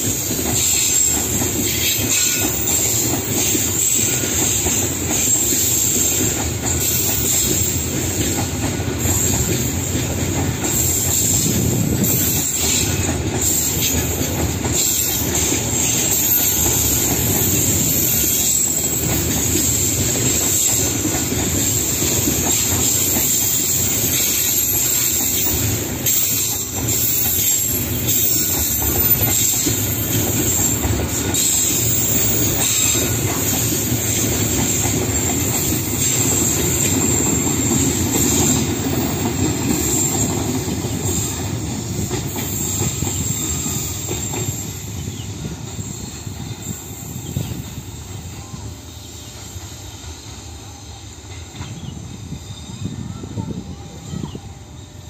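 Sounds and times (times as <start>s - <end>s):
wheels clacking over rail joints: 0.0s - 47.6s
high-pitched hiss: 0.0s - 55.0s
train wheels rumbling on rails: 0.0s - 55.0s.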